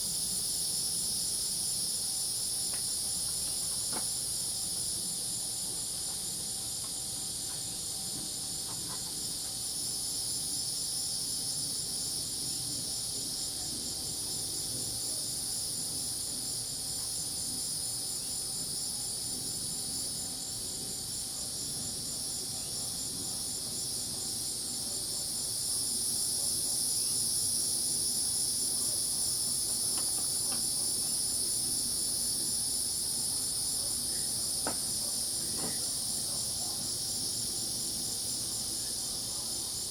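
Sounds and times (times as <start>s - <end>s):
crickets and cicadas trilling: 0.0s - 39.9s.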